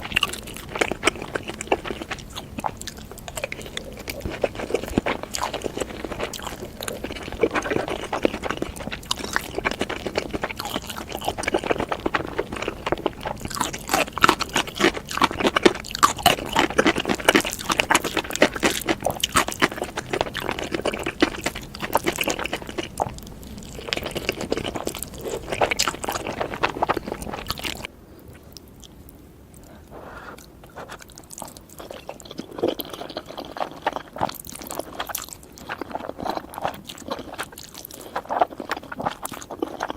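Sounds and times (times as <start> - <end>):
person chewing noodles: 0.0 - 29.0, 29.6 - 39.9.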